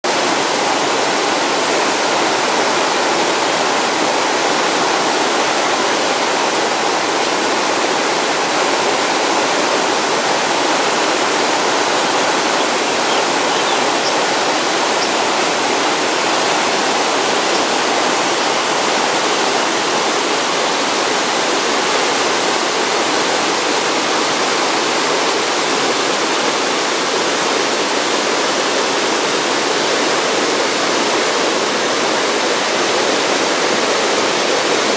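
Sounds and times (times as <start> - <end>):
stream rushing over boulders: 0.0 - 34.9.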